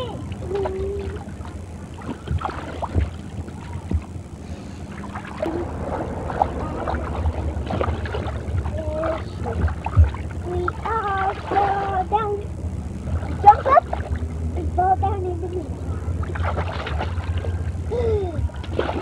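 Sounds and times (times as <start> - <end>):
distant children's voices: 0.0 - 4.0, 5.4 - 19.0
water splashing and sloshing: 0.0 - 14.6, 15.5 - 19.0
steady low rumble: 0.0 - 19.0.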